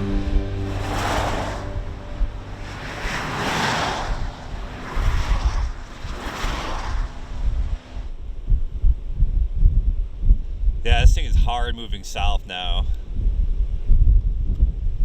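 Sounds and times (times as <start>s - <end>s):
wind buffeting microphone: 0.0s - 11.8s, 12.8s - 15.0s
gusty wind rushing: 0.0s - 15.0s.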